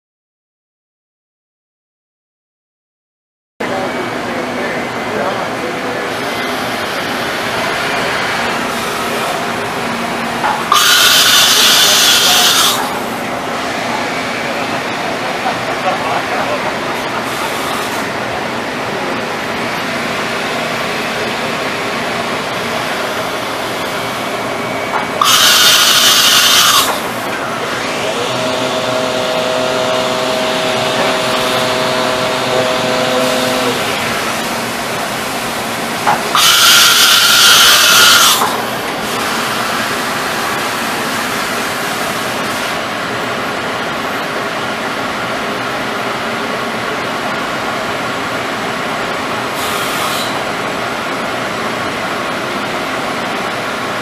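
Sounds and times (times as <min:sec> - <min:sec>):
high machine whirring: 0:03.6 - 0:54.0
machine hum: 0:03.6 - 0:54.0.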